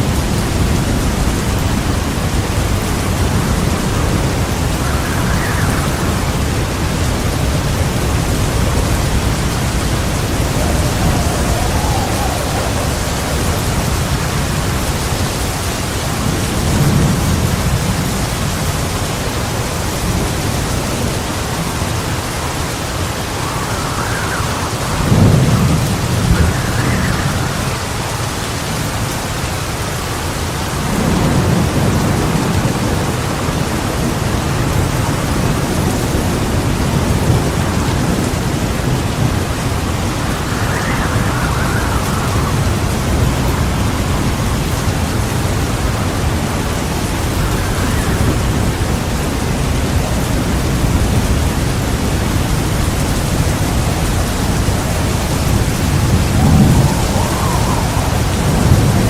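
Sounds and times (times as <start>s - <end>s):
rolling thunder: 0.0s - 29.8s, 30.6s - 59.0s
heavy rain falling: 0.0s - 59.0s.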